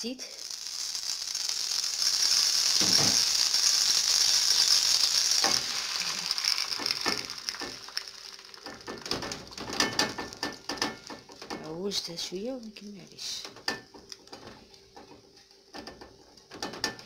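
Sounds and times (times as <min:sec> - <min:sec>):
oil sizzling in a frying pan: 0:00.0 - 0:17.0.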